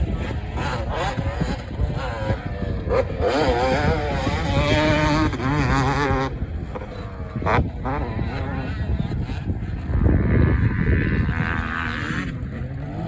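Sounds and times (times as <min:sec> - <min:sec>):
two-stroke dirt bike revving: 0:00.0 - 0:13.0.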